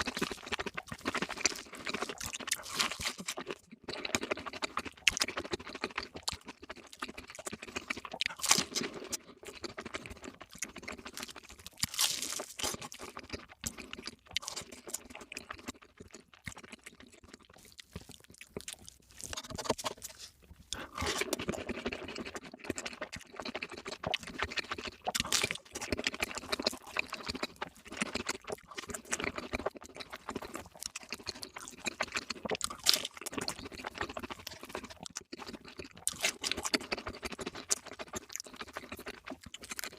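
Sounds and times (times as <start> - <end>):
chewing crispy food: 0.0 - 39.9
wet mouth sounds: 0.0 - 39.9.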